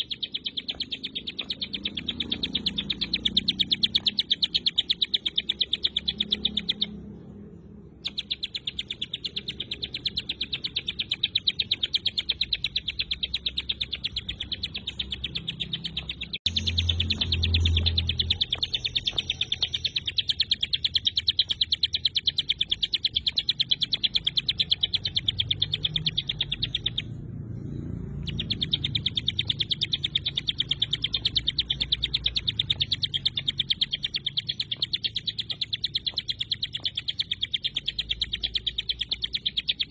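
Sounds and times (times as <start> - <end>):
bird singing rapid sharp chirps: 0.0 - 39.9.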